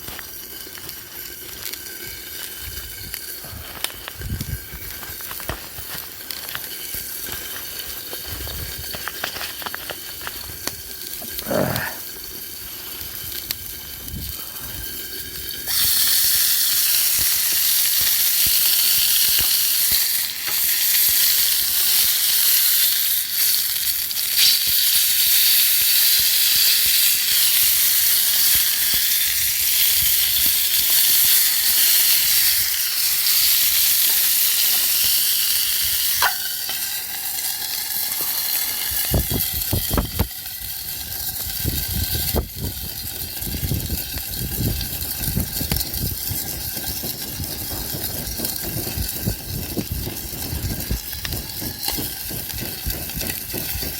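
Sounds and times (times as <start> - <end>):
food sizzling in a pan: 0.0 - 53.9.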